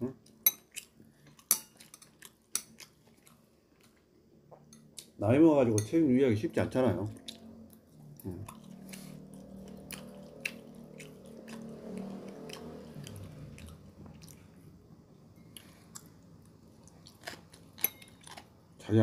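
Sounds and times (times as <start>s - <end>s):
faint low hum: 0.0s - 19.0s
person chewing food: 0.2s - 5.2s, 7.1s - 14.8s, 15.4s - 18.7s.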